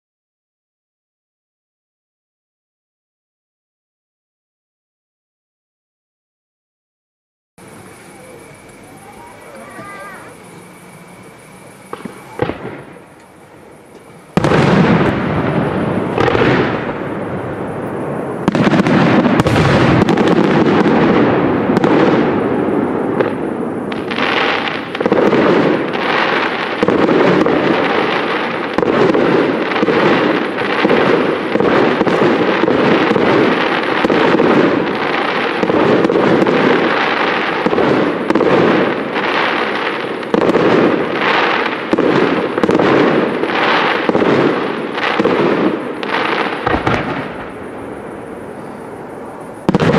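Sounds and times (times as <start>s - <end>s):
fireworks bangs: 7.6s - 49.9s.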